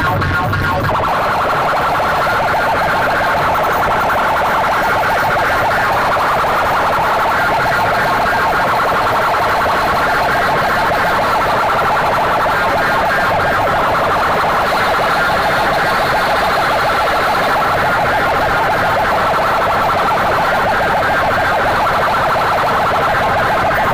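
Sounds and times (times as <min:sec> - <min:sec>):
distorted siren-like wail from speakers: 0:00.0 - 0:23.9.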